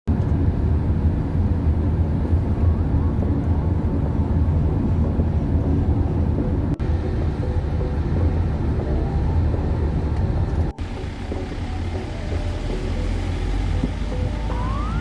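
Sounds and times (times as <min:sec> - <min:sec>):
moving vehicle low rumble: 0:00.1 - 0:15.0.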